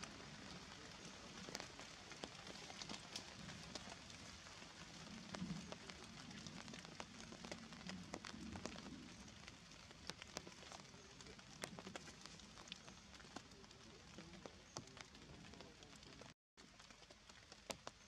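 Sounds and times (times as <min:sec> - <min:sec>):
water drops falling on leaves: 0:00.0 - 0:18.0.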